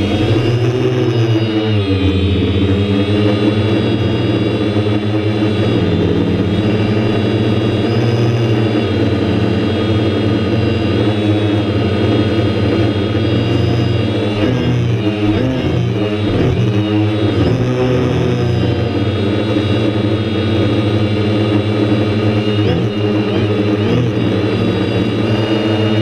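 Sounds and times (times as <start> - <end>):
drone motors buzzing: 0.0 - 26.0.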